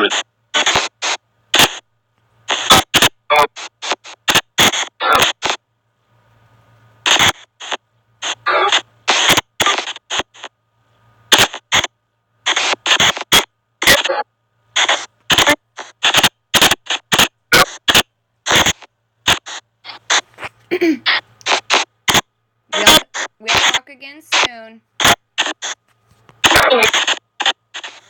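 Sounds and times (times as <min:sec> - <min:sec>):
bursts of static and chopped audio: 0:00.0 - 0:05.7, 0:06.3 - 0:28.0.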